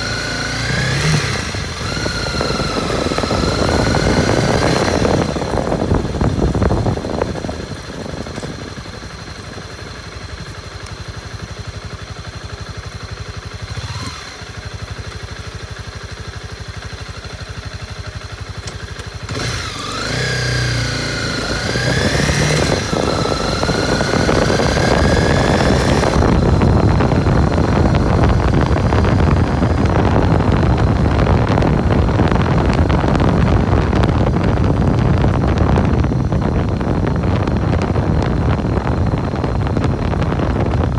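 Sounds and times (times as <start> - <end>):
wind rushing over microphone: 0.0 - 18.5, 19.2 - 40.9
motorcycle engine revving: 0.0 - 40.9.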